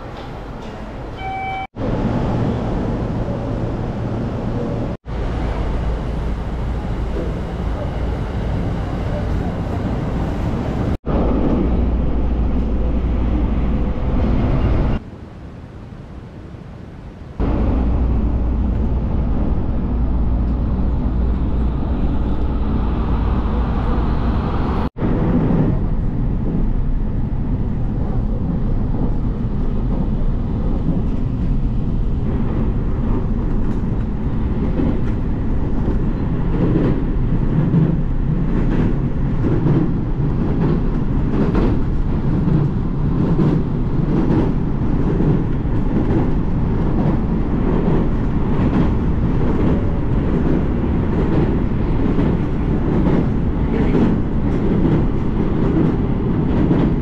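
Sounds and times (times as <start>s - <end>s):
train rumble inside carriage: 0.0s - 57.0s.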